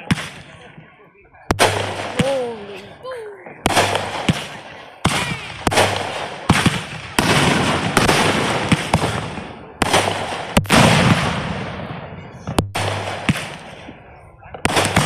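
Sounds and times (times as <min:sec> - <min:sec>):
fireworks bursting: 0:01.5 - 0:02.8, 0:03.6 - 0:14.0, 0:14.6 - 0:15.0.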